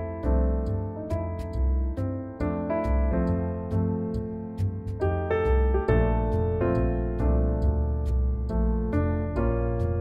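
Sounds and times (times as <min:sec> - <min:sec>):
soft electric piano chords: 0:00.0 - 0:10.0.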